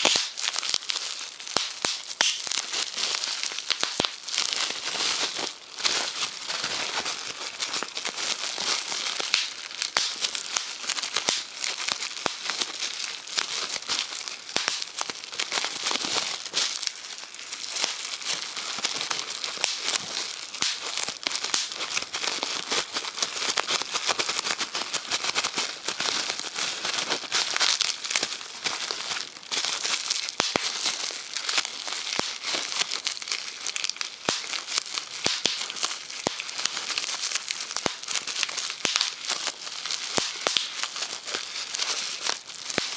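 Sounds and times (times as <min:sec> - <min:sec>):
bubble wrap crinkling: 0:00.0 - 0:42.9
bubble wrap popping: 0:00.0 - 0:42.9.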